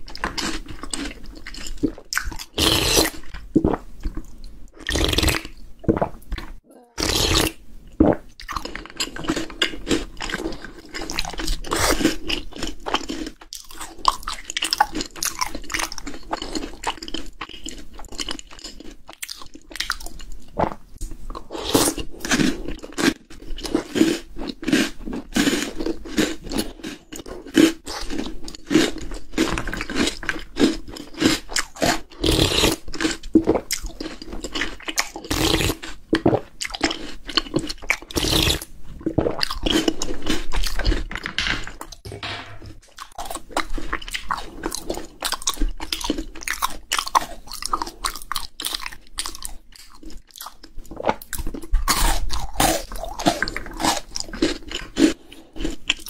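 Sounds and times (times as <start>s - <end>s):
chewing crunchy chocolate balls: 0.0s - 42.0s, 42.9s - 56.0s.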